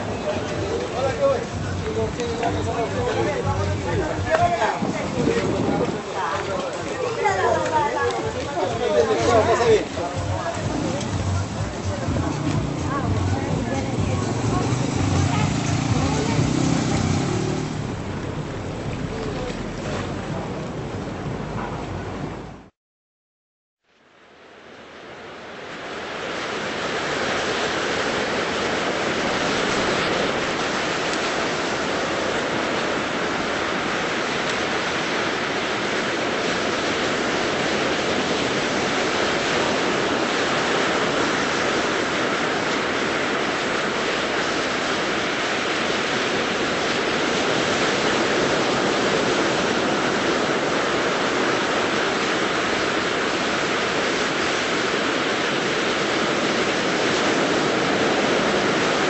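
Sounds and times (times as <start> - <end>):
small waves breaking on beach: 0.0 - 20.8, 24.2 - 59.0.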